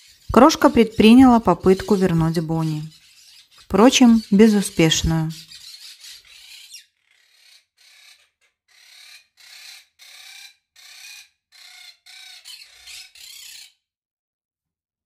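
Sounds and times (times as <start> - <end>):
parakeets squawking: 0.0 - 13.8.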